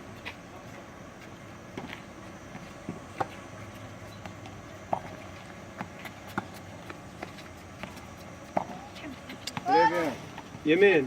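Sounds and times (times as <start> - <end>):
tennis ball bouncing on court: 1.7 - 10.6.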